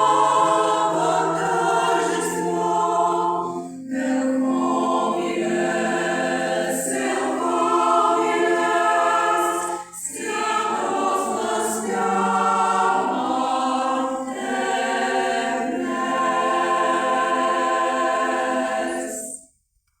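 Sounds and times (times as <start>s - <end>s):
choir singing: 0.0s - 19.4s.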